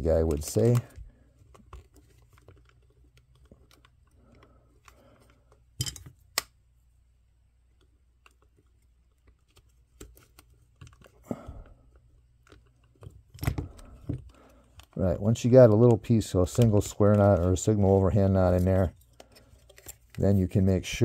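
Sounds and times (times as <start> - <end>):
hands handling plastic toy: 0.0 - 6.5, 7.7 - 21.0.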